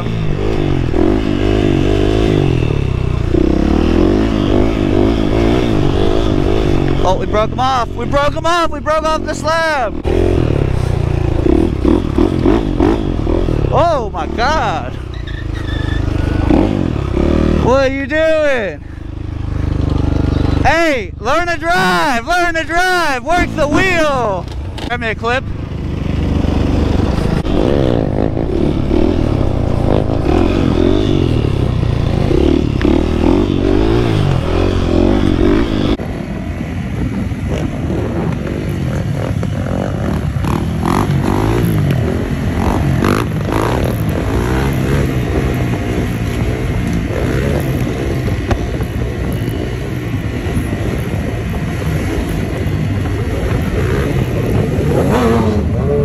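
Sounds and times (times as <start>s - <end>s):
motorbikes and quads running: 0.0s - 56.0s
motorcycle engines revving: 0.0s - 56.0s.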